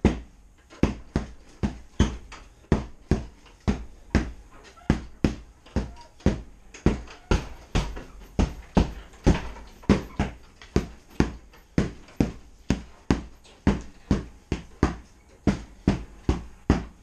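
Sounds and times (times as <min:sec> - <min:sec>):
punches thudding on heavy bag: 0:00.0 - 0:17.0.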